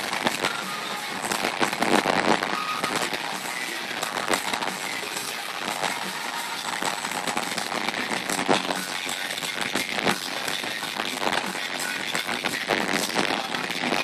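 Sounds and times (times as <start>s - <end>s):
distorted concert din: 0.0s - 14.0s.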